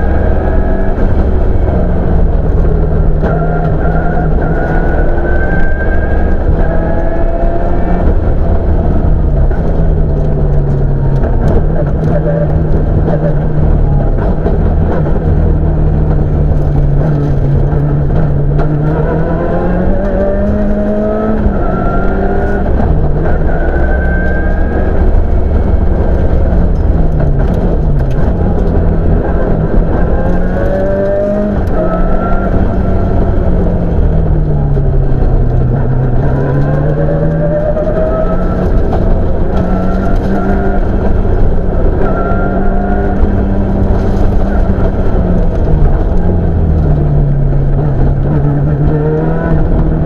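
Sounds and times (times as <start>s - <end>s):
car engine revving: 0.0s - 50.0s
road and drivetrain rumble: 0.0s - 50.0s.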